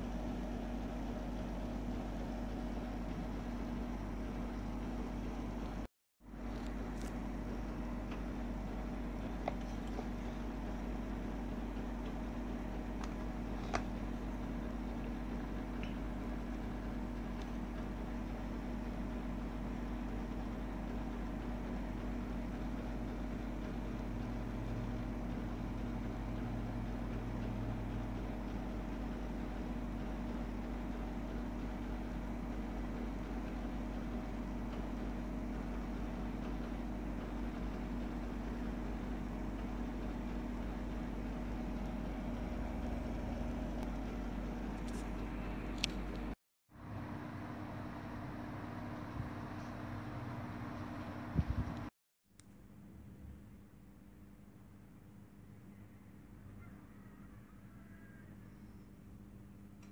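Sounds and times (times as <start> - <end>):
low equipment hum: 0.0 - 59.9.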